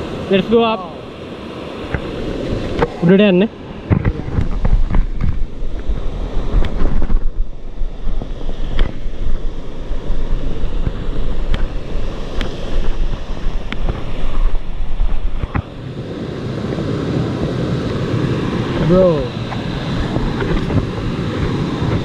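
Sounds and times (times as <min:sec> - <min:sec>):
waterfall roaring: 0:00.0 - 0:22.0
wind buffeting microphone: 0:00.0 - 0:22.0.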